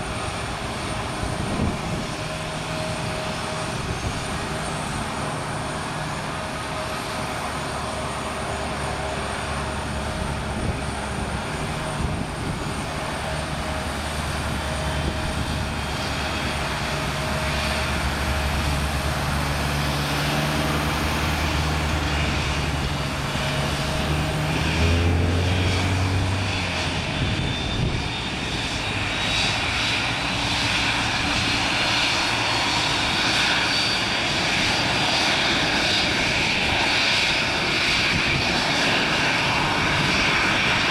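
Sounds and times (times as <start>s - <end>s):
high turbine whine: 0.0s - 40.9s
jet engines droning: 0.0s - 40.9s.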